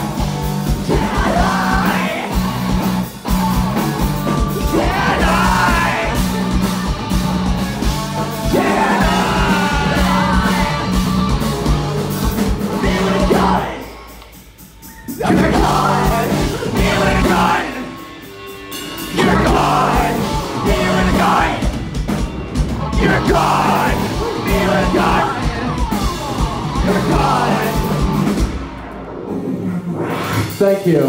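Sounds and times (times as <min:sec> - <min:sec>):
live rock band playing: 0:00.0 - 0:29.6.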